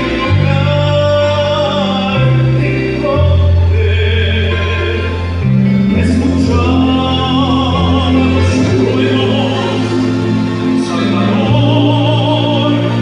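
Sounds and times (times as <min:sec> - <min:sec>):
held bass notes: 0:00.0 - 0:13.0
person singing worship song: 0:00.0 - 0:13.0.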